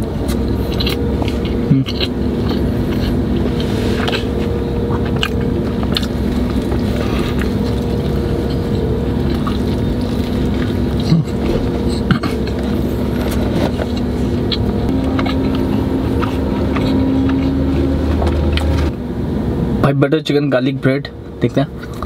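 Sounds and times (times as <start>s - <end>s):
crunchy chewing of toasted sandwich: 0.0s - 18.9s
car engine humming: 0.0s - 22.0s.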